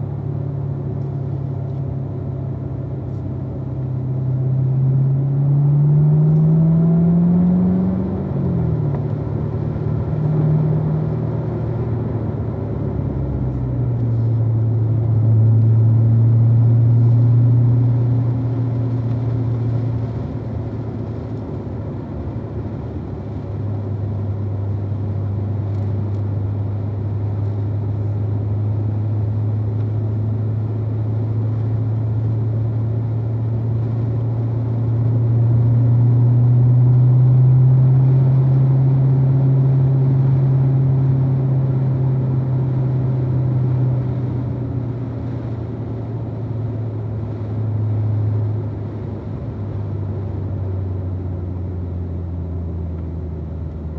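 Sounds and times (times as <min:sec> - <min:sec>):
car engine at low revs: 0:00.0 - 0:53.9.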